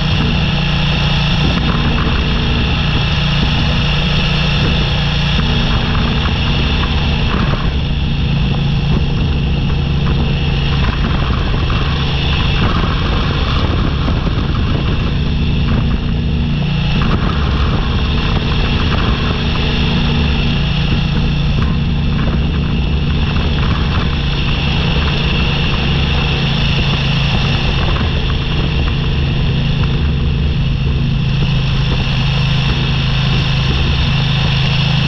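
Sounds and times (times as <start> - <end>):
motorcycle engine running: 0.0 - 35.0
tyres on gravel and wind: 0.0 - 35.0.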